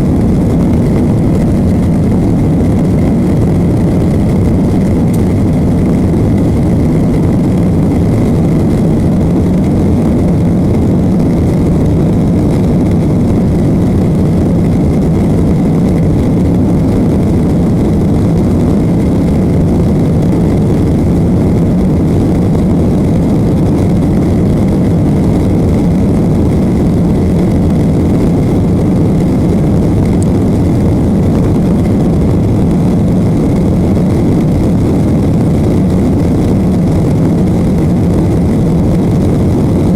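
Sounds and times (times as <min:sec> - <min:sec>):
faint thin whine: 0:00.0 - 0:39.9
jet engine cabin rumble: 0:00.0 - 0:39.9.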